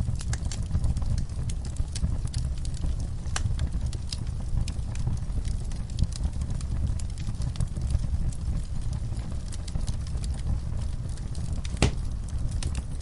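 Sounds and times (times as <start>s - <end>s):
fire crackles and pops: 0.0s - 13.0s
logs burning in a fireplace: 0.0s - 13.0s.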